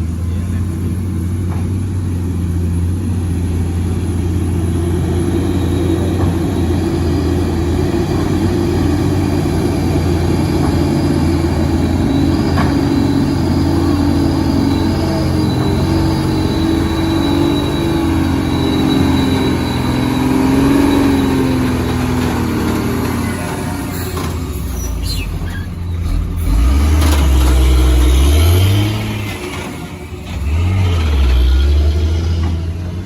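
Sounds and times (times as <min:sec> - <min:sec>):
diesel engine revving under load: 0:00.0 - 0:33.0.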